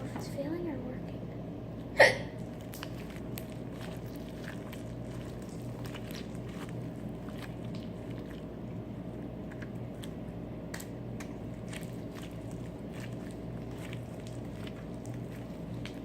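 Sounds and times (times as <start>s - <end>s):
steady low hum: 0.0s - 16.0s
slime squishing with sticky clicks: 2.3s - 16.0s.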